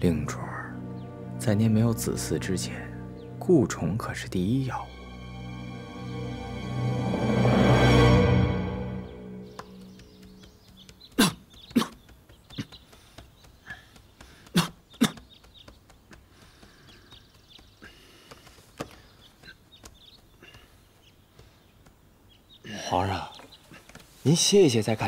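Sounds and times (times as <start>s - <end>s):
faint birds chirping: 0.0s - 25.0s.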